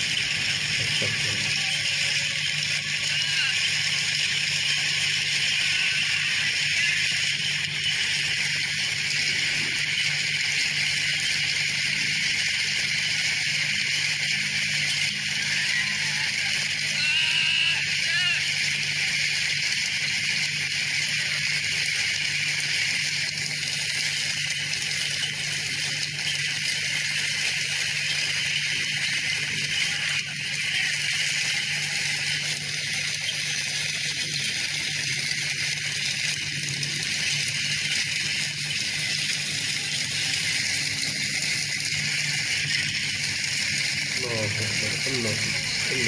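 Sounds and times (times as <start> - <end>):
hail pelting down: 0.0 - 46.0.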